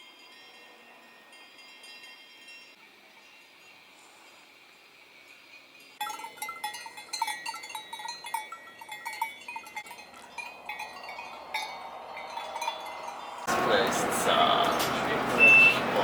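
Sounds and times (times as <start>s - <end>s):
cowbells clanking: 0.0s - 3.8s, 5.1s - 16.0s.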